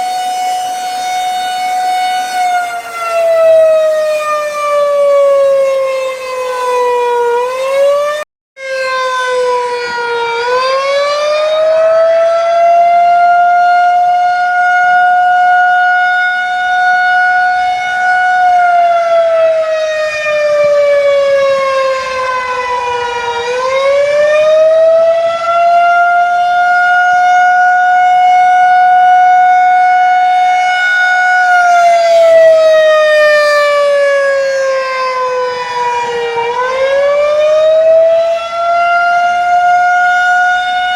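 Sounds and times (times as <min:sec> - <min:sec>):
tornado siren winding: 0:00.0 - 0:40.9.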